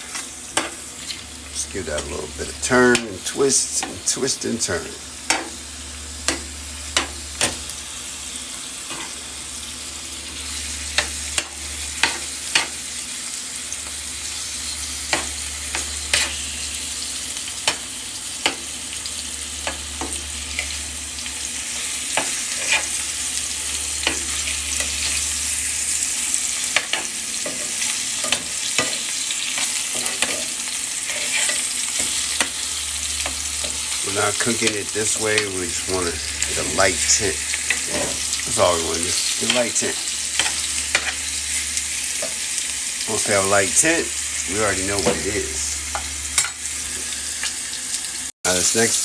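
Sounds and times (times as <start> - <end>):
chicken and onions sizzling in oil: 0.0 - 49.0.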